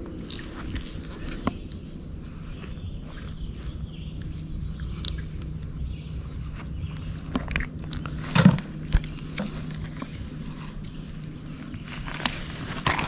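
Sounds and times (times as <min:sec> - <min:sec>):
high insect trill: 0:00.0 - 0:12.6
low outdoor rumble: 0:00.0 - 0:13.0.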